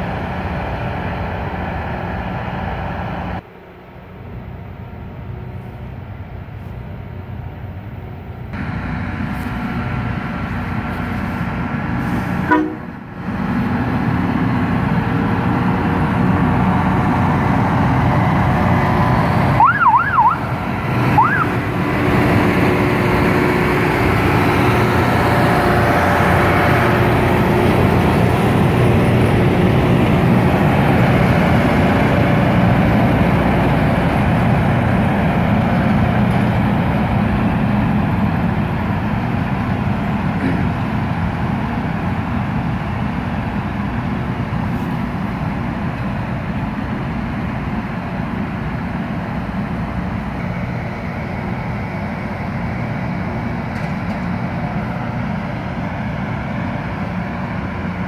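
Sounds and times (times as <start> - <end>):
rail grinder train rumbling: 0.0 - 58.0.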